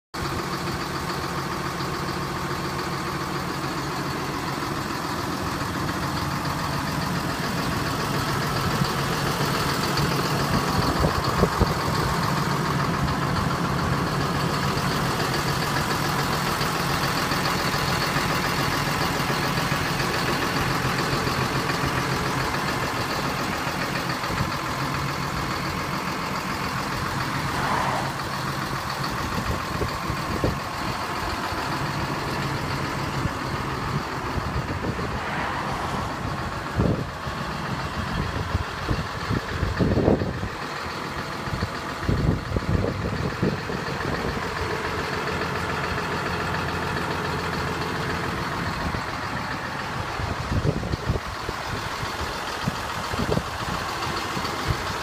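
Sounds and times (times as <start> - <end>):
tractor diesel engine idling: 0.1 - 55.0.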